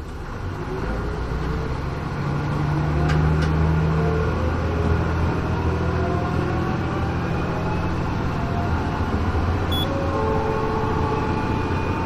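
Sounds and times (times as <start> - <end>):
diesel railcar engine drone: 0.0 - 12.0
rising engine whine: 0.5 - 12.0.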